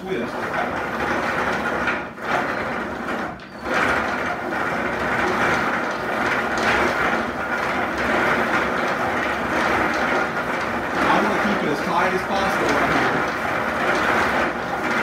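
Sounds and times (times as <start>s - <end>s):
hand-cranked gears grinding rattle: 0.0s - 15.0s.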